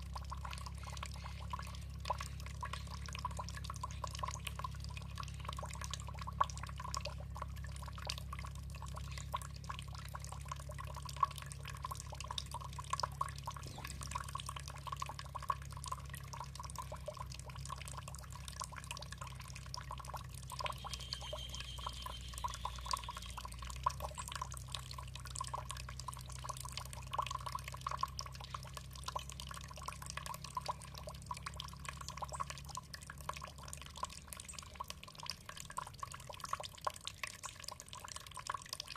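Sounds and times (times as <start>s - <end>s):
low hum: 0.0s - 36.4s
water dripping and trickling: 0.0s - 38.9s.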